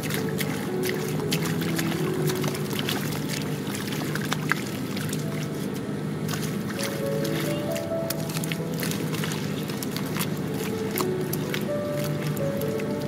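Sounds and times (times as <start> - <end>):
hands squelching through wet mud: 0.0 - 13.0
splashes and wet smacks: 0.0 - 13.0.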